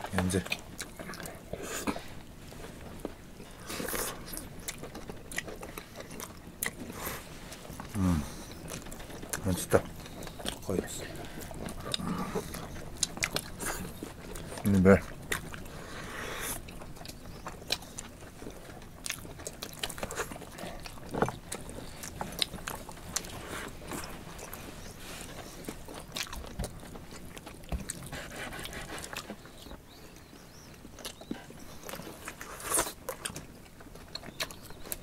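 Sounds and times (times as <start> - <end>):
people chewing and biting: 0.0 - 35.0.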